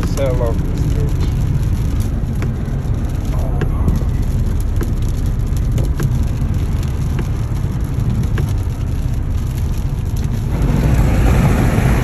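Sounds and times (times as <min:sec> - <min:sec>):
raindrops tapping on car: 0:00.0 - 0:12.0
road and engine rumble: 0:00.0 - 0:12.0.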